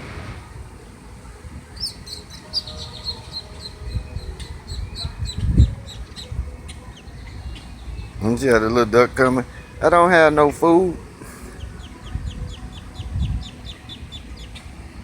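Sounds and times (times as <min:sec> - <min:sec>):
ducklings peeping: 0:01.8 - 0:10.5, 0:11.2 - 0:15.0.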